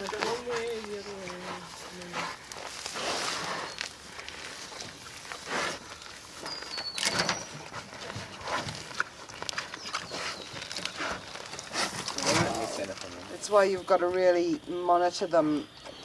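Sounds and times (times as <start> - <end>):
pigs snuffling: 0.0 - 16.0
rustling in soil and weeds: 0.0 - 16.0.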